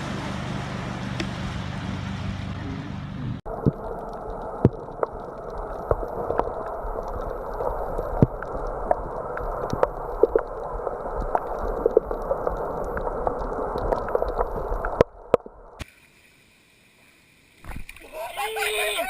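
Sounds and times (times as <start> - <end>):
muffled gurgling water: 0.0 - 15.8.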